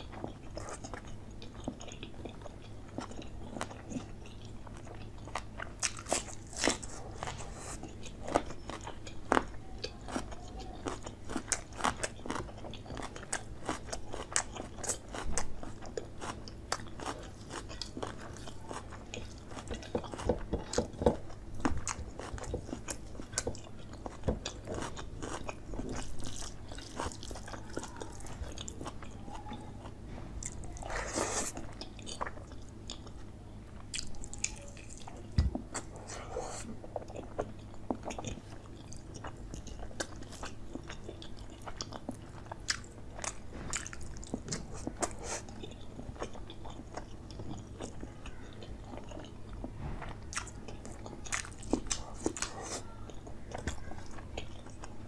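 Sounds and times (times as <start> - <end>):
crunchy bites and chewing: 0.1 - 55.0.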